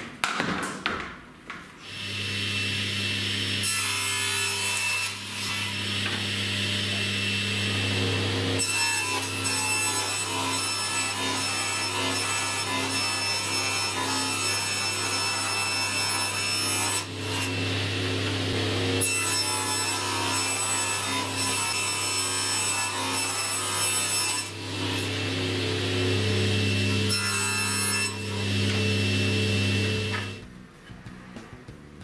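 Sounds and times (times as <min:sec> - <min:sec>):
table saw cutting board: 0:01.8 - 0:30.4.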